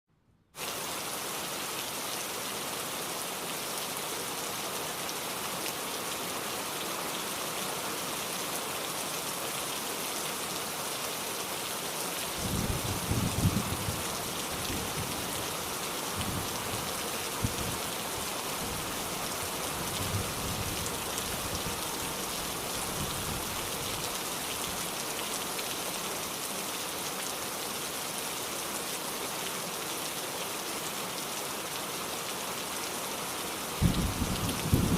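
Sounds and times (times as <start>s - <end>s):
heavy rain: 0.6s - 34.9s.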